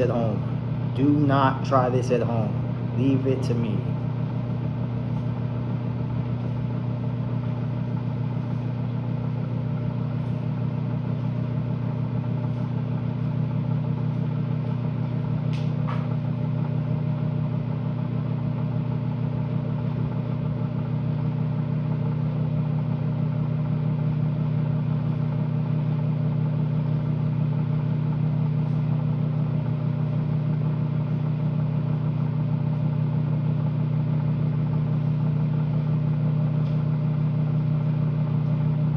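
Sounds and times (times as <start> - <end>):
microwave oven humming: 0.0 - 38.9.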